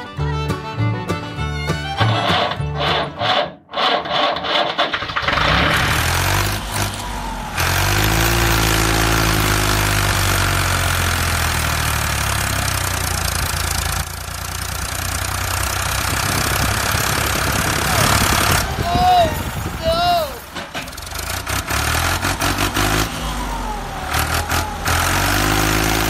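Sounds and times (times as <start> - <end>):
tractor engine starting and running: 0.0 - 26.0.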